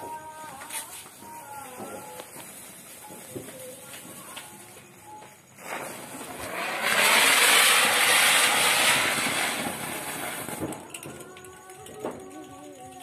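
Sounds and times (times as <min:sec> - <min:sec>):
ground spinner firework hissing: 0:00.0 - 0:13.0.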